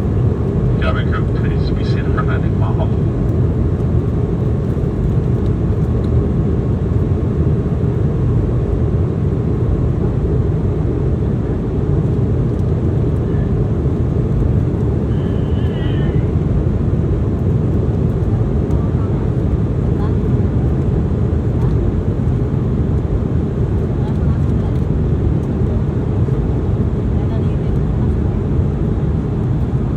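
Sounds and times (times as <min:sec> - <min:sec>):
airliner cabin rumble: 0:00.0 - 0:29.9.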